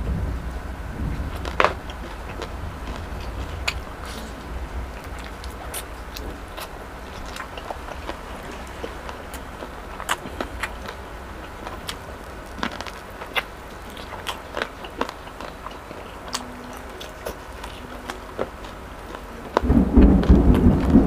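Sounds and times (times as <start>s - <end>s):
thunder rumbling: 0.0s - 14.6s, 17.7s - 21.0s
crunching and chewing: 1.1s - 21.0s.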